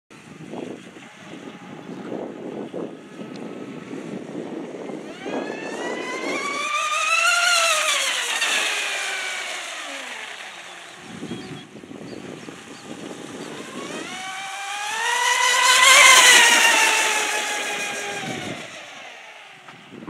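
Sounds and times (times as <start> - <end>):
rc speedboat motor whine: 0.2 - 20.0.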